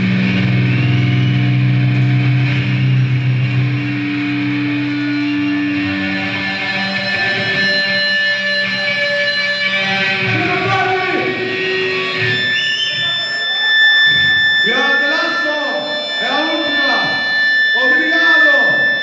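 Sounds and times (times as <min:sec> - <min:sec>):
distorted electric guitars and bass: 0:00.0 - 0:19.0.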